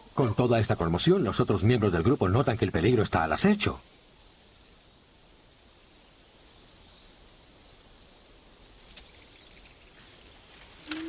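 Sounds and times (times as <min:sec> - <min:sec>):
low background hiss: 0:00.0 - 0:11.0.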